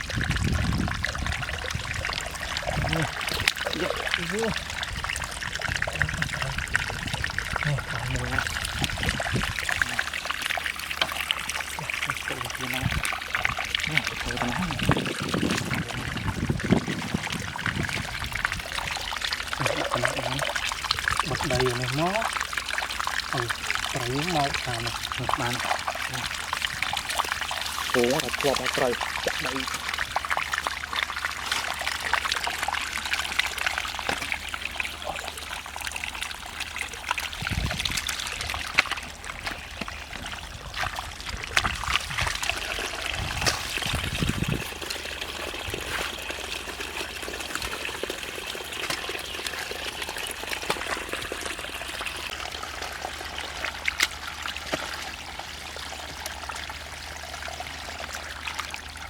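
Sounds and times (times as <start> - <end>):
water trickling and pouring: 0.0 - 59.0.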